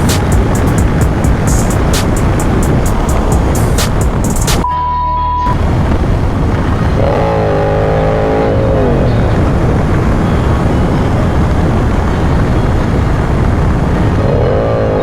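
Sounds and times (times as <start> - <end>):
motorcycle engine rumble: 0.0 - 4.7, 5.5 - 15.0
wind rush: 0.0 - 4.7, 5.5 - 15.0.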